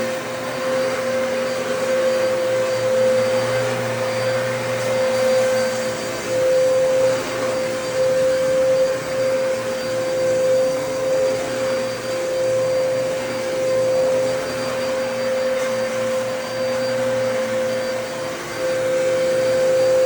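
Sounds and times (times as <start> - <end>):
vacuum airflow noise: 0.0 - 20.0
vacuum cleaner motor whine: 0.0 - 20.0.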